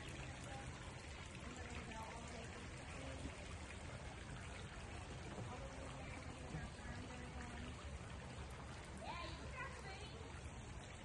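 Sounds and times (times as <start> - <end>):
fountain splashing into pond: 0.0 - 11.0.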